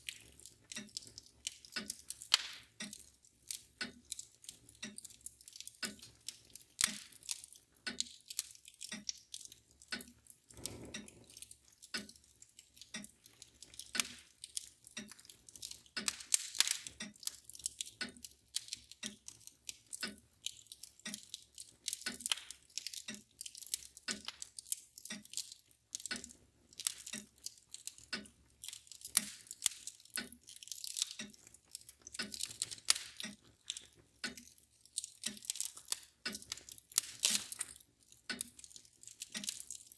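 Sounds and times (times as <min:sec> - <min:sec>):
mantle clock ticking: 0:00.0 - 0:39.9
wood fire crackling: 0:00.0 - 0:39.9.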